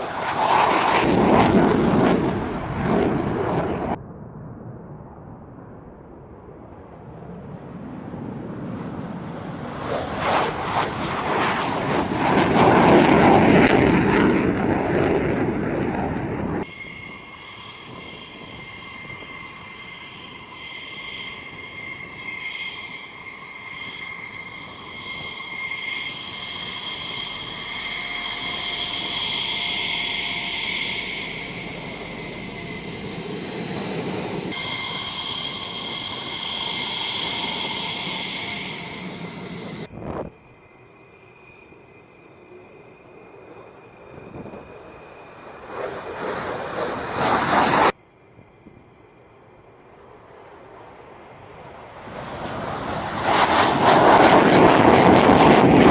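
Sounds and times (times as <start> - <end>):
jet engine whining: 0.0 - 4.0, 7.6 - 55.9
jet thundering past: 0.0 - 40.4, 51.2 - 55.9.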